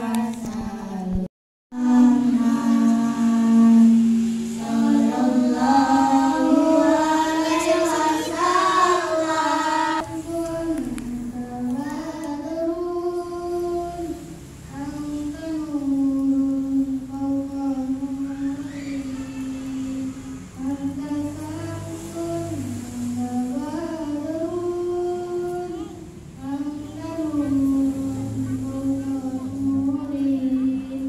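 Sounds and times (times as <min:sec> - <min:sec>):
boys singing into microphones: 0:00.0 - 0:31.0.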